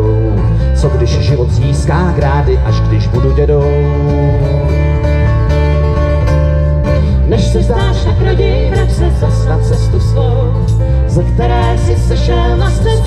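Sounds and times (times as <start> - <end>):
live band playing guitars: 0.0 - 13.0.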